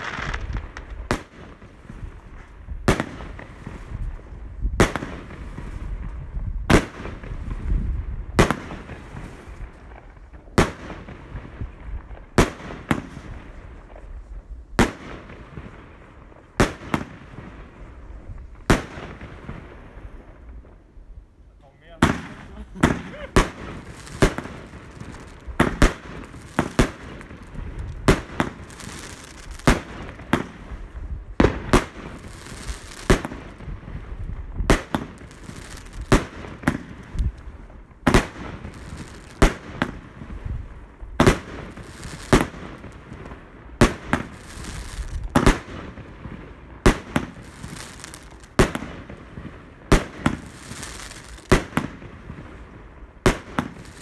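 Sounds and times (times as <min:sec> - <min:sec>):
fireworks bangs: 0:00.0 - 0:20.9, 0:21.8 - 0:54.0.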